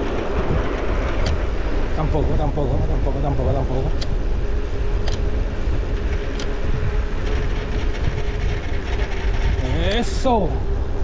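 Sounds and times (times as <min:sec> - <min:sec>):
bicycle tyre noise on road: 0:00.0 - 0:11.0
wind rushing over microphone: 0:00.0 - 0:11.0.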